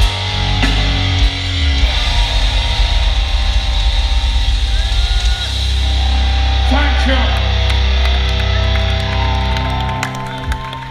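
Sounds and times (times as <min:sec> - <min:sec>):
heavy metal chord ringing: 0:00.0 - 0:10.4
high sustained tone: 0:00.4 - 0:09.4.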